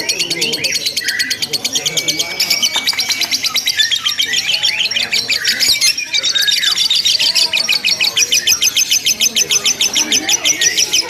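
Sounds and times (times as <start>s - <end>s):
lovebirds chattering trills: 0.0s - 11.0s.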